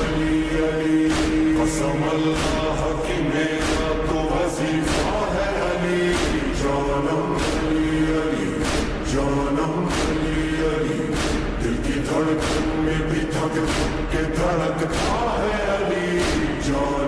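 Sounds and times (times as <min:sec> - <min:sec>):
chorus chanting long tones: 0:00.0 - 0:17.0
steady beat: 0:00.0 - 0:17.0.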